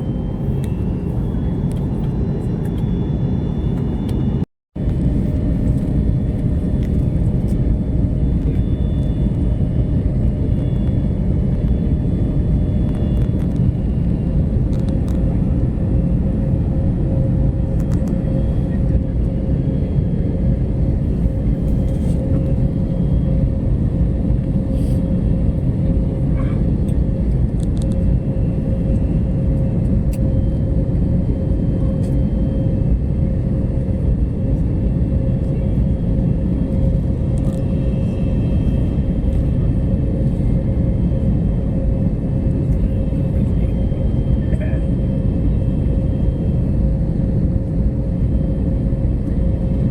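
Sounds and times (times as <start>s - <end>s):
airliner engine rumble: 0.0s - 49.9s.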